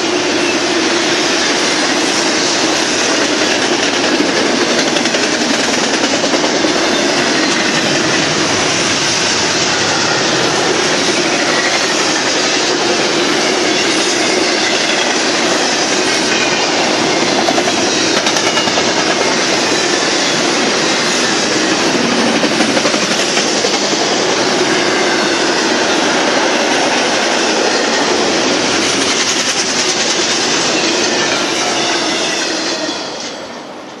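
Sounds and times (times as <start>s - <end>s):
freight train wheels rumbling: 0.0s - 34.0s.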